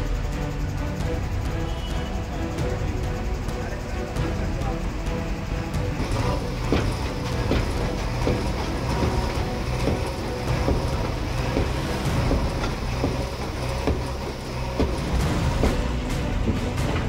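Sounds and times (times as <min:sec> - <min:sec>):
diesel engine running: 0:00.0 - 0:17.0
masonry knocking and clattering: 0:02.6 - 0:17.0.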